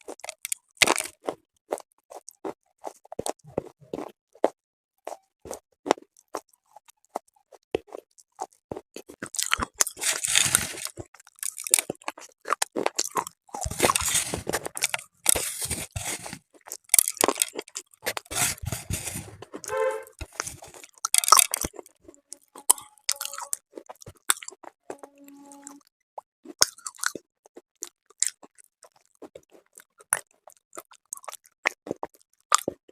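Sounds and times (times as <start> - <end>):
crunchy chewing: 0.0 - 32.9.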